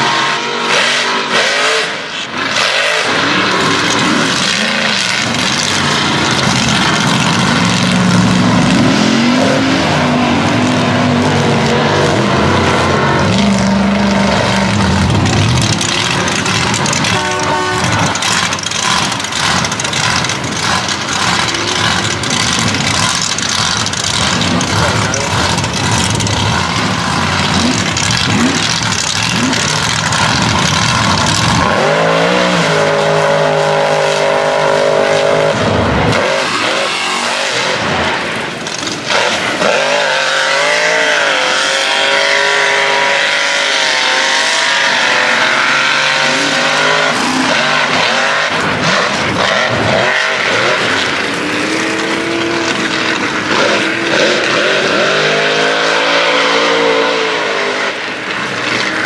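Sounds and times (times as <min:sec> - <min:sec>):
truck engine revving hard: 0:00.0 - 0:59.0
tyres spinning through mud: 0:02.4 - 0:59.0.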